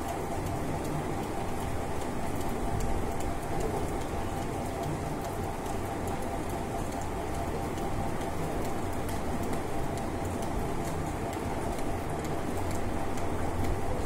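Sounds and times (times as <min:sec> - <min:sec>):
rain drips and splashes: 0:00.0 - 0:14.0
steady rain hiss: 0:00.0 - 0:14.0.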